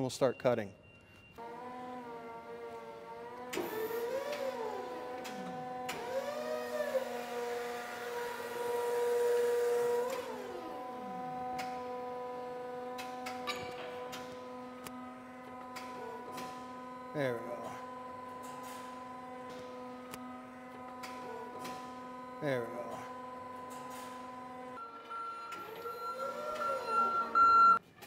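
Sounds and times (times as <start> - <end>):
forklift electric motor whining: 1.4 - 27.8.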